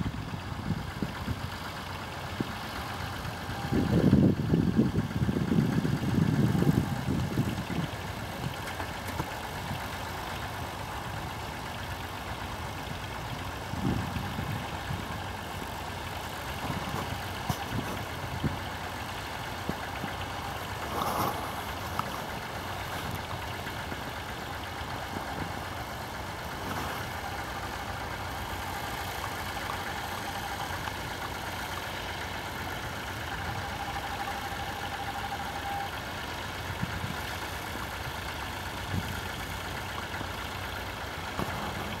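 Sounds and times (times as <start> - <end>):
tractor engines running: 0.0 - 42.0.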